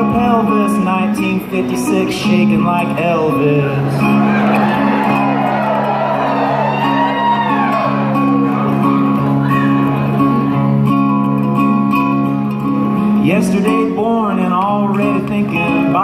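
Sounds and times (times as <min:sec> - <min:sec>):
acoustic guitar strumming: 0:00.0 - 0:16.0
plucked string instrument: 0:00.0 - 0:16.0.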